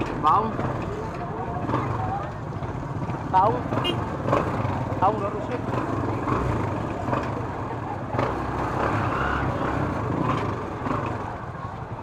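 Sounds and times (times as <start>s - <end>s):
motorcycles: 0.0s - 12.0s
vehicle engines running: 0.0s - 12.0s
faint crowd voices: 0.2s - 12.0s.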